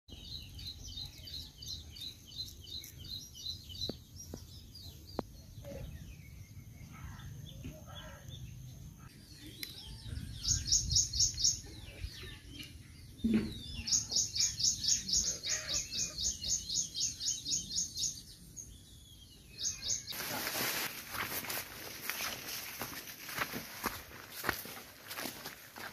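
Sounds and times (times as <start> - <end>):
birds chirping: 0.1 - 25.9.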